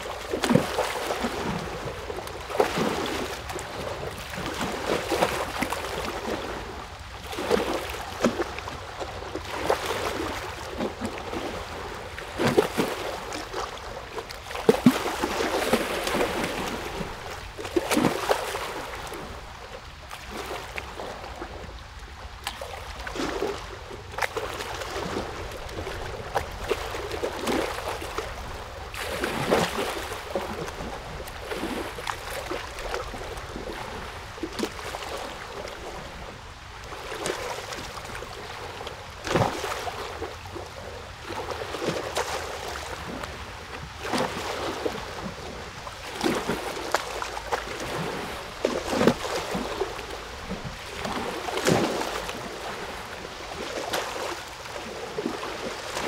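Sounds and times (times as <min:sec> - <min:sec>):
water splashing and lapping: 0:00.0 - 0:56.0.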